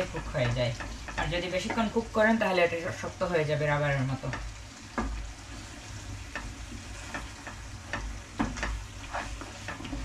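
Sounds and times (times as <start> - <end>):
food sizzling in a frying pan: 0.0 - 10.0
wooden spatula scraping a pan: 0.1 - 3.1, 4.3 - 10.0.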